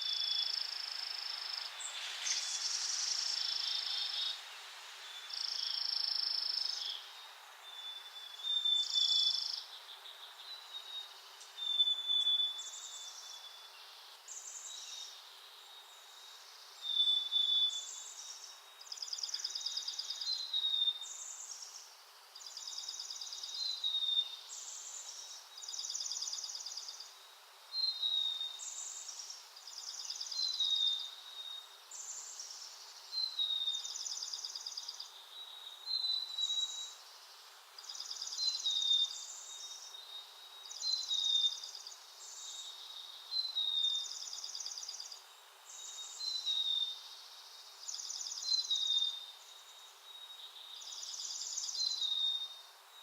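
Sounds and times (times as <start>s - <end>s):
faint outdoor hiss: 0.0s - 53.0s
songbirds trilling and chirping: 0.0s - 53.0s.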